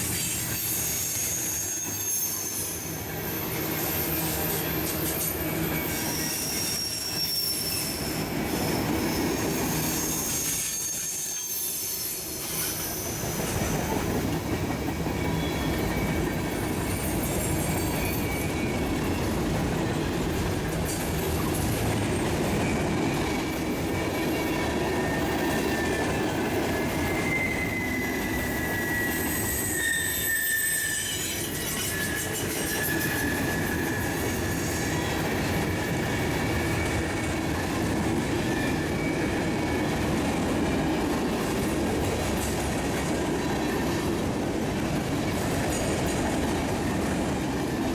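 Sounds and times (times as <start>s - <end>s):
railroad cars rumbling: 0.0s - 47.9s
steel wheels squealing on rails: 0.0s - 47.9s.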